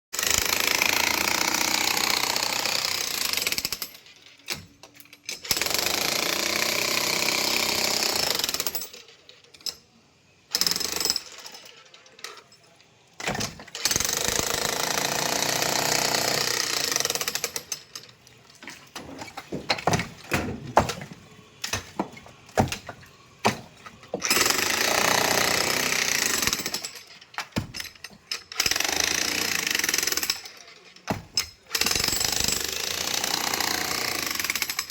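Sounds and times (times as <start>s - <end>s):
jackhammer breaking concrete: 0.2s - 4.6s, 5.3s - 8.9s, 10.5s - 11.6s, 13.2s - 17.9s, 19.2s - 34.9s.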